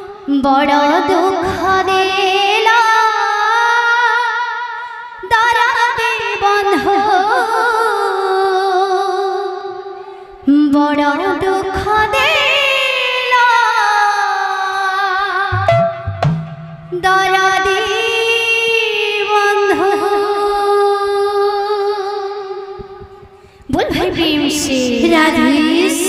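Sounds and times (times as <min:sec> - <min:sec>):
woman singing devotional notes: 0:00.0 - 0:15.7, 0:16.9 - 0:26.0.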